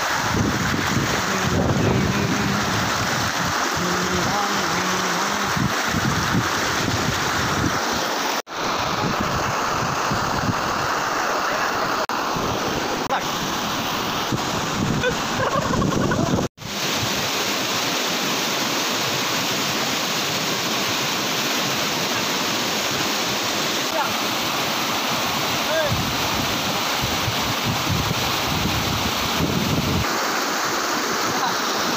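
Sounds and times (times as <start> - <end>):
stream rushing over boulders: 0.0 - 31.9.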